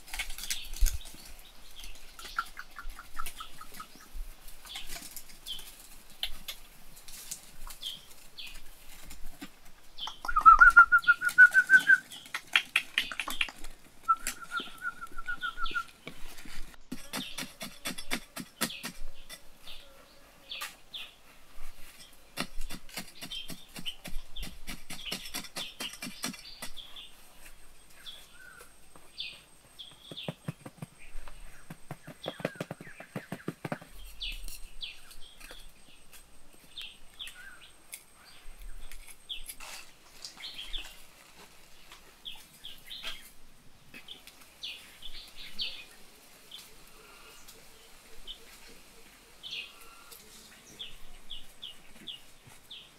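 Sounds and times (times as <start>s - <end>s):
scraping in sandy soil: 0.0s - 52.9s
birds chirping: 0.4s - 52.9s.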